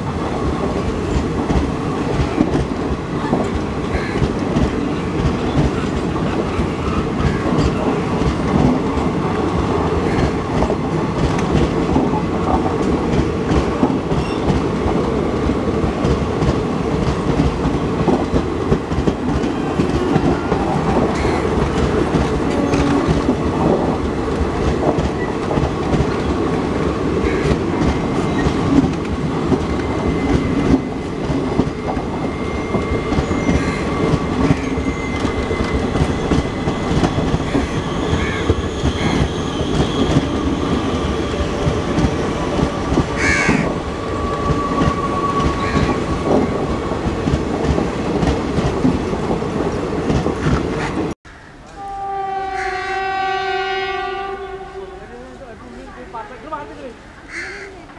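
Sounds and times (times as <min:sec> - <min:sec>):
train wheels rumbling on rails: 0:00.0 - 0:51.8.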